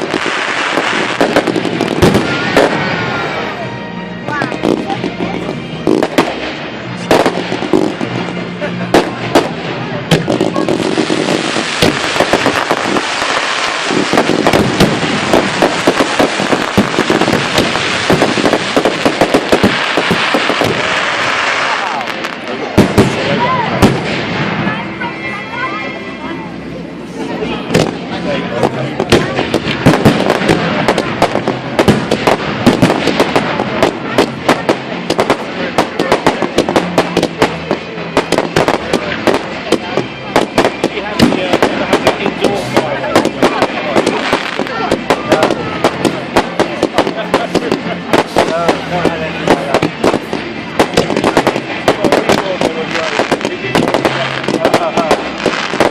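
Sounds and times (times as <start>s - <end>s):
fireworks bangs: 0.0s - 25.7s, 27.4s - 55.9s
fireworks crackling: 0.0s - 55.9s.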